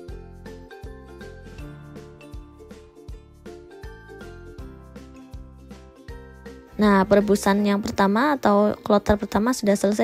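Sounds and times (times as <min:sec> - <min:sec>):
light background music with beat: 0:00.0 - 0:10.0.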